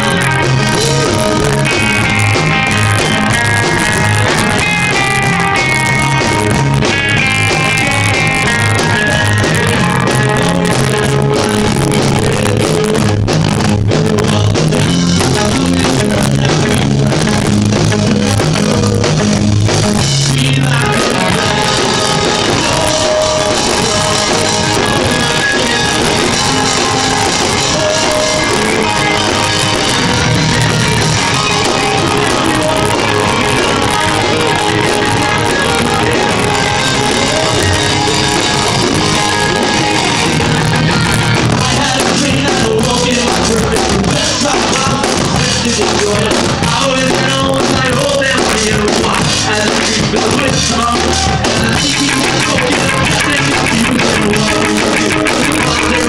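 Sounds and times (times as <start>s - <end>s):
person singing: 0.0s - 19.5s, 20.2s - 56.0s
live rock band playing: 0.0s - 56.0s.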